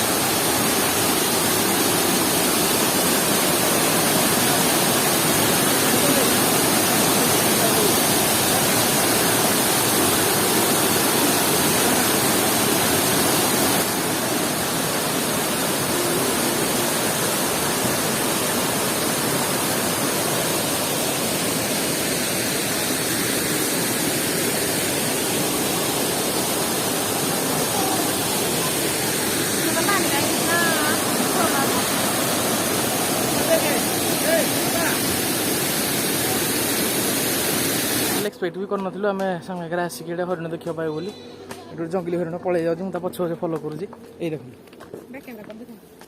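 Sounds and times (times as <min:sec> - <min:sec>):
waterfall rushing: 0:00.0 - 0:38.3.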